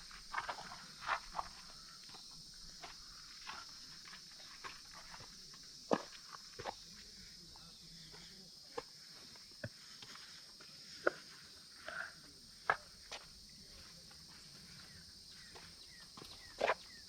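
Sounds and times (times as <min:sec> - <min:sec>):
footsteps on dirt trail: 0:00.0 - 0:11.6, 0:12.6 - 0:17.0
insects droning: 0:00.0 - 0:17.0.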